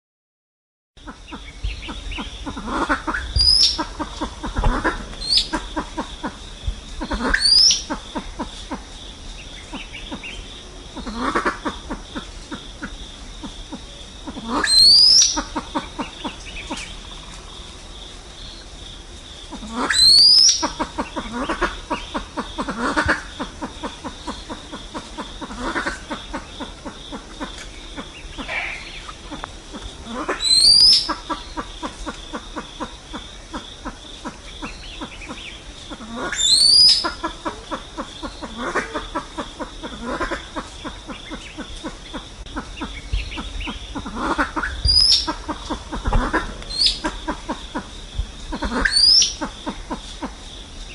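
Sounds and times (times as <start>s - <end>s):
pheasant clucking calls: 1.0s - 17.4s, 19.5s - 50.9s.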